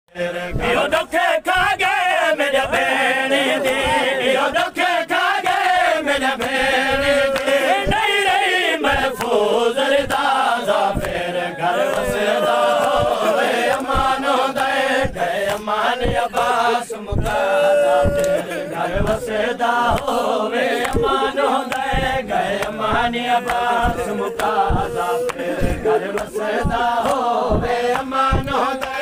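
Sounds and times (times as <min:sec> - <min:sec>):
men chanting a lament: 0:00.1 - 0:29.0
chest-beating slaps: 0:03.6 - 0:04.1, 0:05.4 - 0:09.4, 0:10.0 - 0:29.0.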